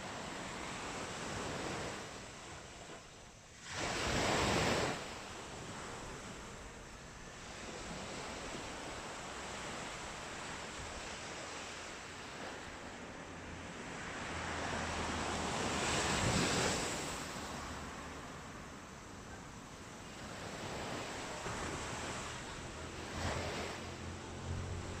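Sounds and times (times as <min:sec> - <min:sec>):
sea waves washing on beach: 0:00.0 - 0:25.0.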